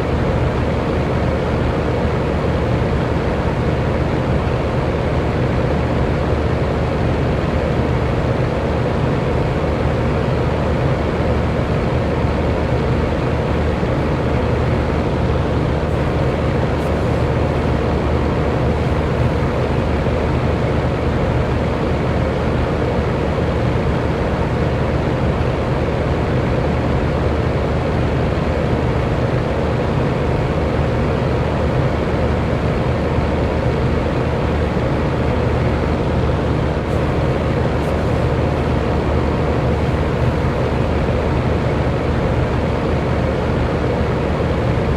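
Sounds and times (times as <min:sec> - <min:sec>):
electric fan running: 0:00.0 - 0:44.9.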